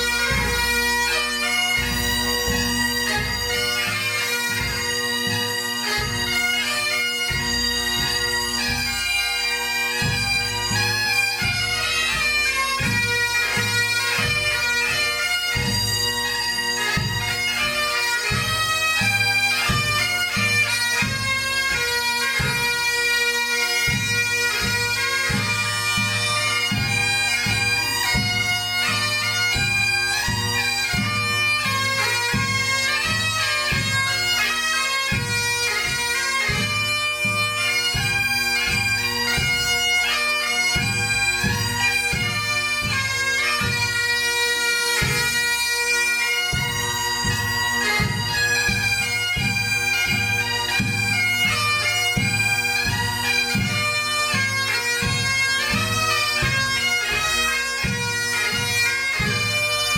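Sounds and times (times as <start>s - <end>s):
bagpipes playing a tune: 0.0s - 59.9s.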